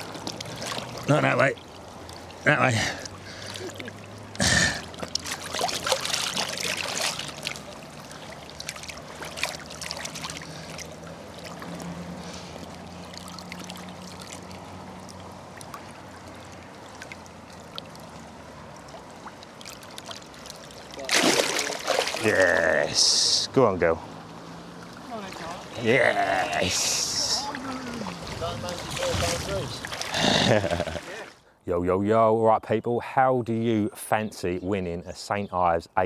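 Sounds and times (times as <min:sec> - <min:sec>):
water lapping: 0:00.0 - 0:23.4, 0:24.0 - 0:31.4
water splashing: 0:00.0 - 0:23.4, 0:24.1 - 0:31.4.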